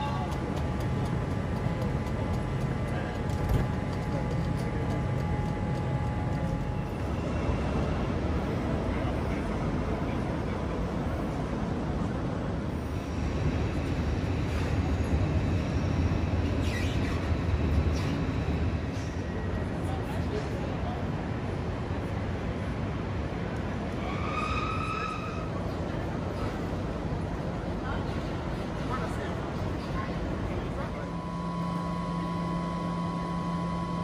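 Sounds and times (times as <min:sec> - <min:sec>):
trains rumbling and humming: 0:00.0 - 0:34.0.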